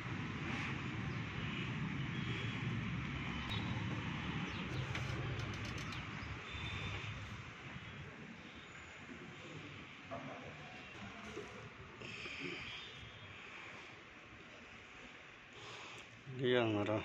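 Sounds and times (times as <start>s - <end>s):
distant traffic rumble: 0.0s - 14.3s.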